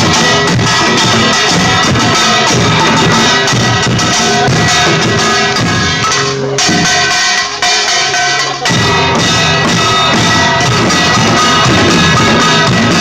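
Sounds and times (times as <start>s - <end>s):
drum kit playing: 0.0s - 13.0s.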